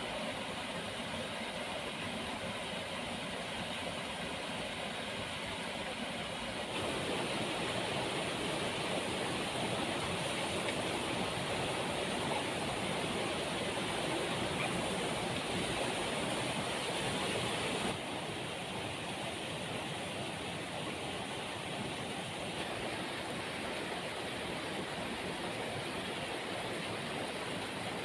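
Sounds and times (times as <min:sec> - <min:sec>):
waterfall roar: 0:00.0 - 0:28.0.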